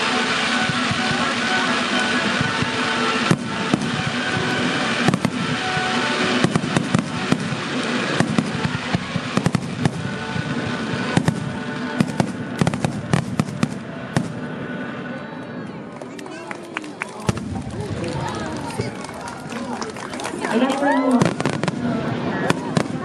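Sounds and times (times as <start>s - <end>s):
fireworks bangs and crackling: 0.0s - 15.0s, 16.3s - 23.0s
music: 0.0s - 23.0s.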